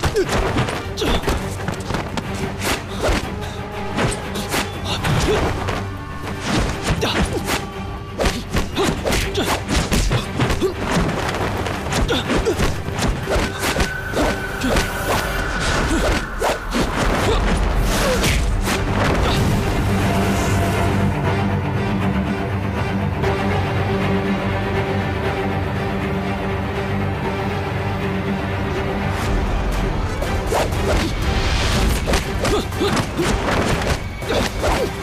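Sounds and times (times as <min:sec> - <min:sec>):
dramatic background music: 0:00.0 - 0:35.0.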